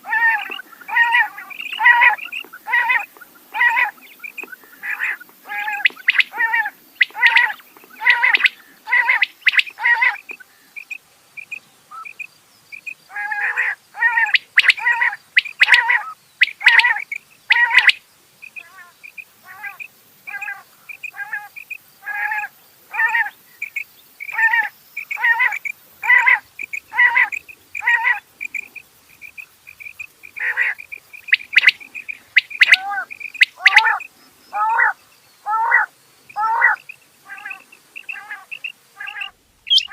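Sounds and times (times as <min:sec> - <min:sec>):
quail calling: 0:00.0 - 0:10.9, 0:13.1 - 0:18.0, 0:18.6 - 0:39.9.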